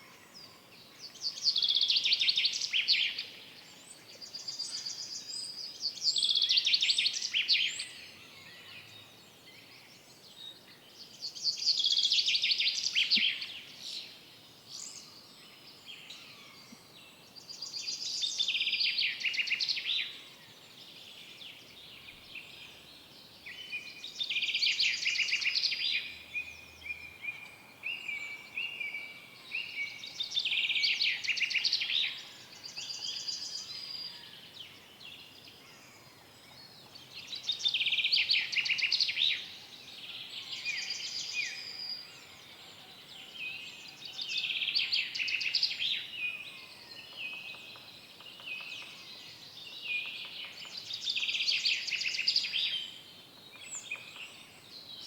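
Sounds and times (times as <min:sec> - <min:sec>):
songbird trilled song: 0:00.0 - 0:42.6, 0:43.2 - 0:55.0.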